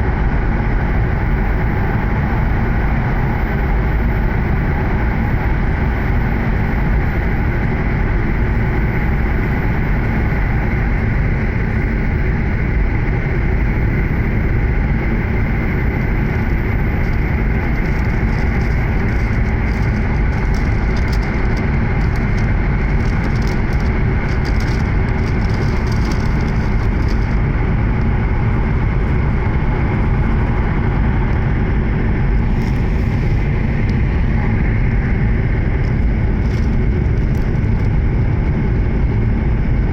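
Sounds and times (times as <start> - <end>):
train wheels and air rumbling: 0.0 - 39.9.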